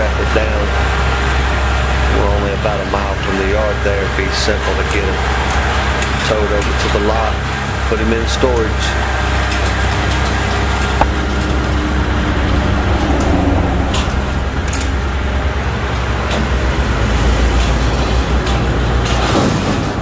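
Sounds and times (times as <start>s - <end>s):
truck engine droning: 0.0s - 20.0s
winch cable pulling: 0.0s - 20.0s.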